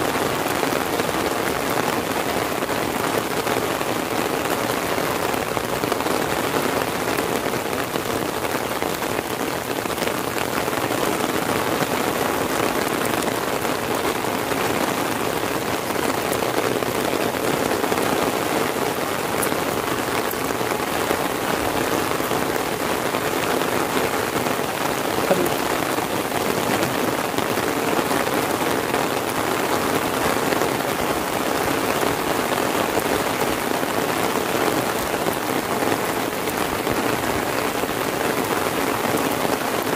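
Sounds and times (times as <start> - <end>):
rain drumming on an umbrella: 0.0 - 39.9
rain splashing on a road: 0.0 - 39.9.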